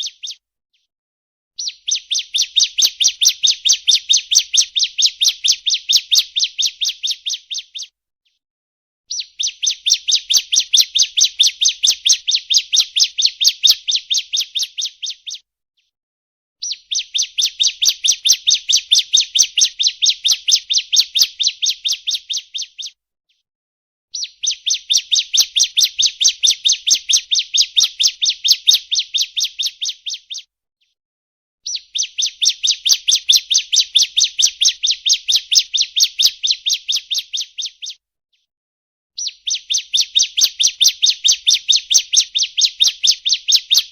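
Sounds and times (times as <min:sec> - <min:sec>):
bird chirping rapidly: 0:00.0 - 0:00.4, 0:01.6 - 0:07.9, 0:09.1 - 0:15.4, 0:16.6 - 0:23.0, 0:24.1 - 0:30.5, 0:31.6 - 0:38.0, 0:39.2 - 0:43.9.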